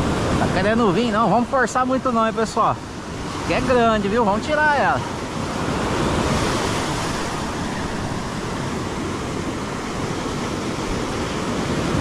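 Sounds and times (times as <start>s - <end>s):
surf breaking on beach: 0.0s - 12.0s.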